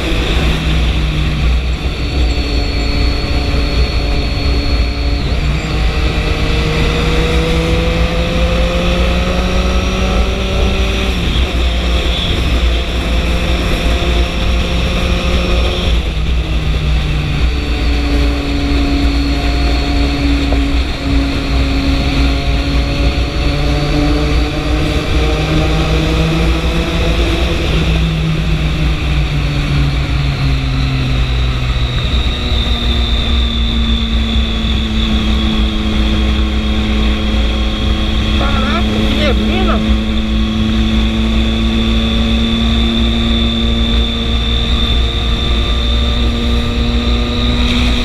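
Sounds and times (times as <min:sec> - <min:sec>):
low wind rumble: 0:00.0 - 0:48.0
motorcycle engine running: 0:00.0 - 0:48.0.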